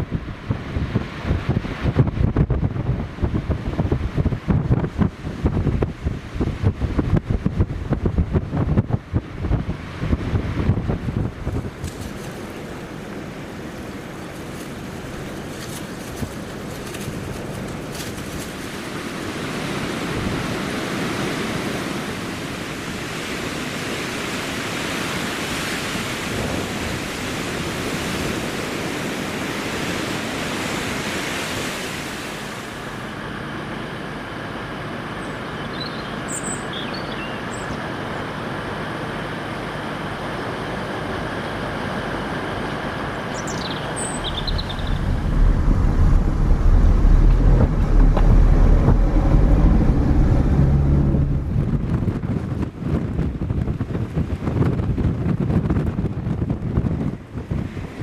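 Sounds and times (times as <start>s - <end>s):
wind buffeting microphone: 0.0s - 33.1s, 42.2s - 58.0s
gusting wind: 0.0s - 58.0s.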